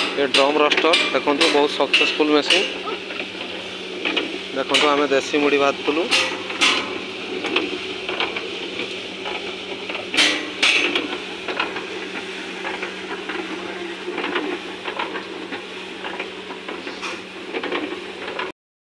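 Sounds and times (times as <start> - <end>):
motor hum: 0.0 - 18.5
puffed rice rattling in rotating drum: 0.0 - 18.5.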